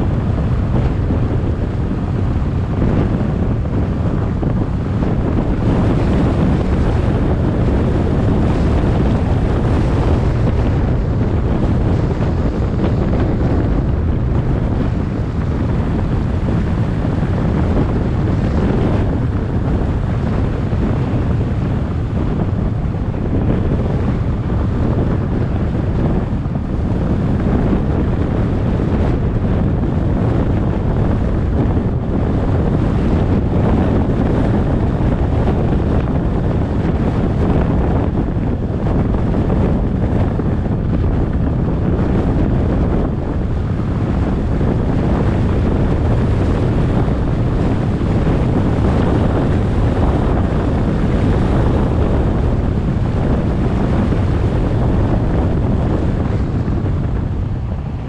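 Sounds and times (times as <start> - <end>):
car road and wind noise: 0.0 - 58.0
wind buffeting microphone: 0.0 - 58.0.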